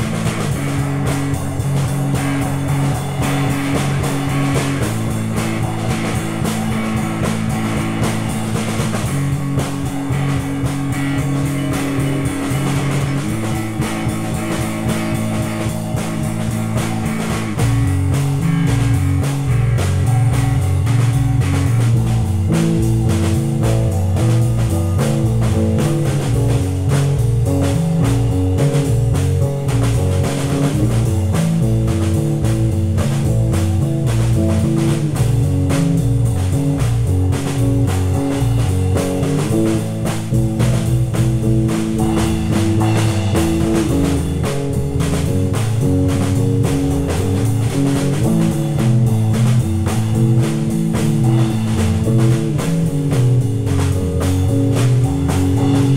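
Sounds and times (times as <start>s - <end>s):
drum kit playing: 0.0s - 55.9s
electric guitars: 0.0s - 55.9s.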